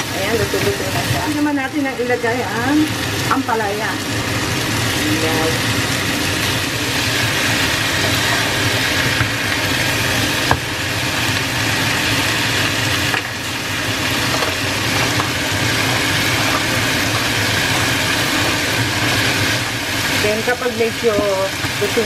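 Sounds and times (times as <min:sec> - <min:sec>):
vegetables sizzling in frying pan: 0:00.0 - 0:22.0.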